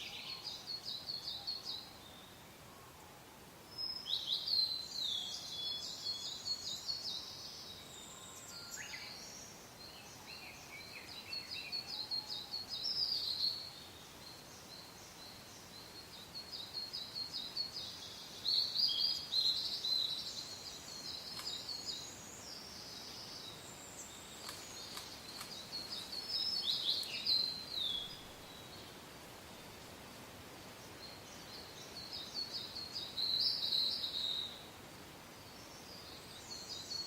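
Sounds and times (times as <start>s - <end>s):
soft wind hiss: 0.0s - 37.0s
songbirds chirping: 0.0s - 37.0s.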